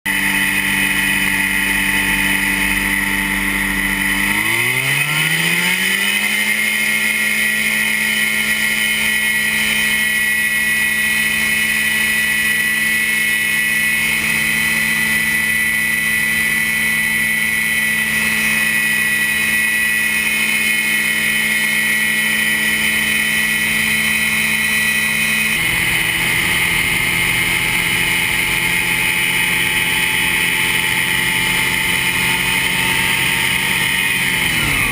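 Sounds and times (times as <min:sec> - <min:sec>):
ultralight aircraft engine droning: 0:00.1 - 0:34.9.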